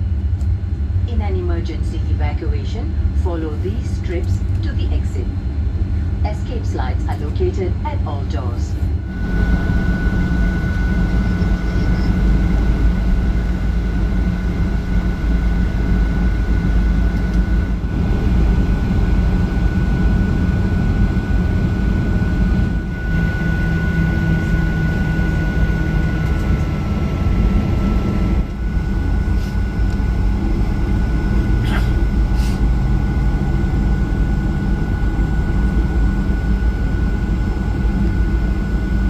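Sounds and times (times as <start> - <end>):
deep cabin rumble: 0.0 - 39.0
jet engine high whine: 0.0 - 39.0.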